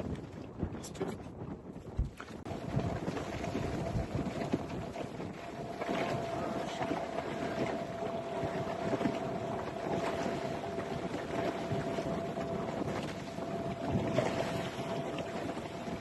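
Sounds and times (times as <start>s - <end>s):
rushing wind and water: 0.0s - 16.0s
wind buffeting microphone: 0.0s - 16.0s
boat engine humming: 2.4s - 16.0s.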